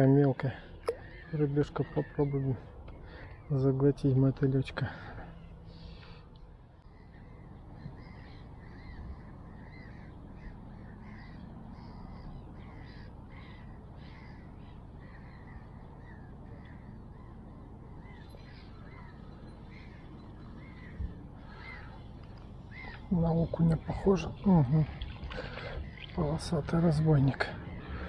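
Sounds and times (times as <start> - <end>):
bird calling: 0.0 - 3.8, 4.8 - 28.0.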